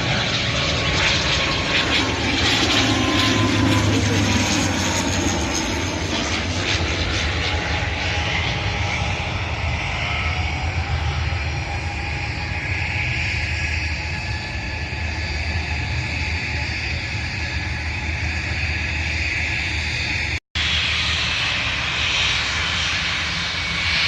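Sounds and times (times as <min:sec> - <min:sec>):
airliner engines rushing with whine: 0:00.0 - 0:24.0.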